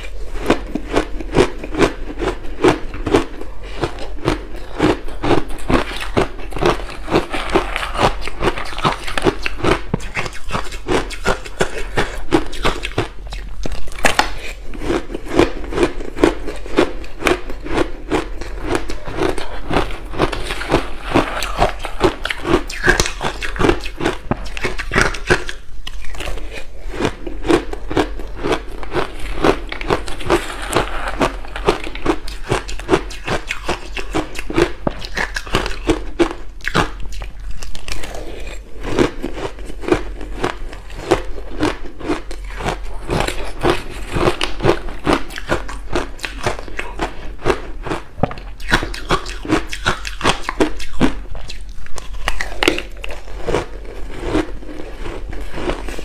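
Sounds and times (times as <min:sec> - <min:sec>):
ice chunks crunched and chewed: 0:00.0 - 0:56.0.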